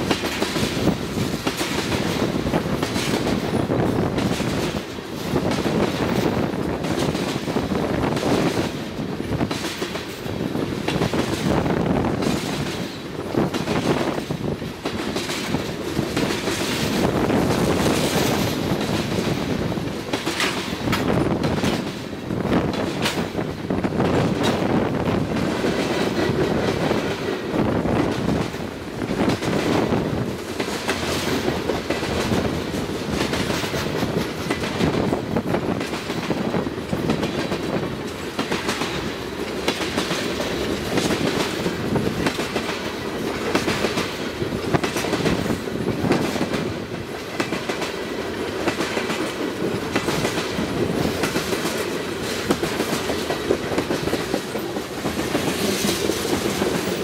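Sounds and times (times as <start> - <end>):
steel wheels rumbling on rail: 0.0 - 57.0
wheels clickety-clack: 0.0 - 57.0.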